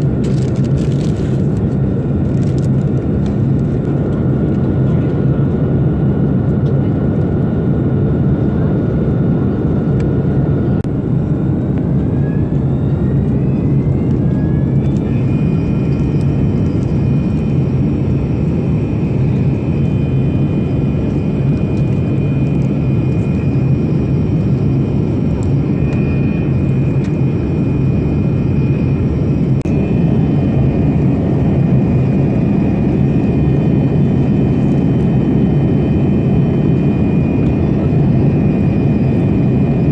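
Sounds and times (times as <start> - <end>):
airplane cabin noise: 0.0 - 39.9.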